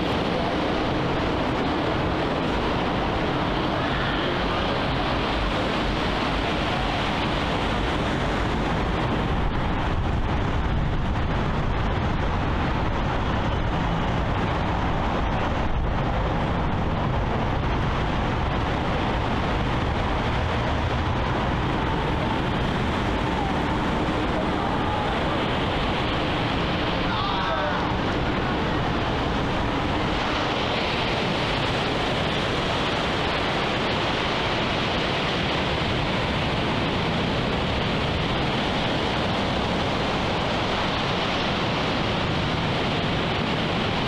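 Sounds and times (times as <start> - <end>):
deep rumble: 0.0 - 44.0
seaside rushing noise: 0.0 - 44.0.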